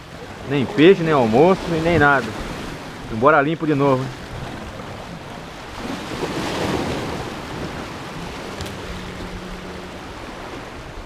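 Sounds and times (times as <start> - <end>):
waves washing over rocks: 0.0 - 11.0
wind buffeting microphone: 0.0 - 11.0.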